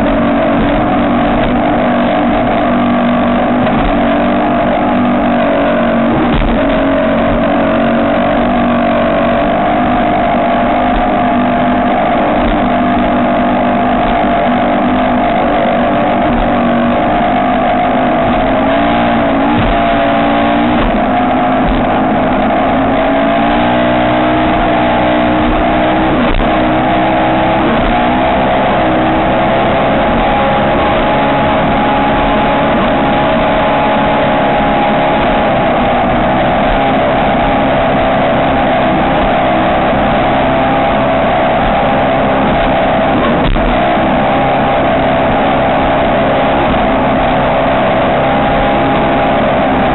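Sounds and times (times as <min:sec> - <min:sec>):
boat engine at high revs: 0:00.0 - 0:49.9.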